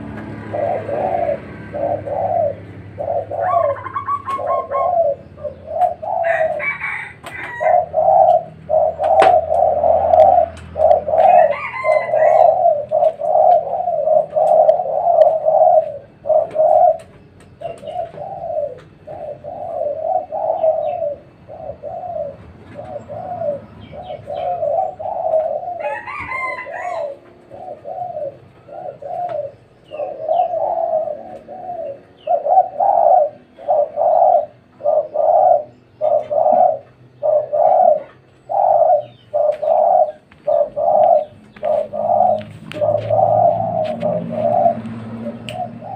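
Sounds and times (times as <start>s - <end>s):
doves cooing: 0.0s - 45.9s.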